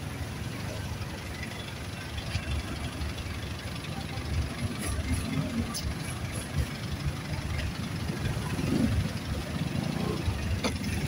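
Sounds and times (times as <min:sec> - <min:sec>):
vehicle engines idling in traffic: 0:00.0 - 0:11.0.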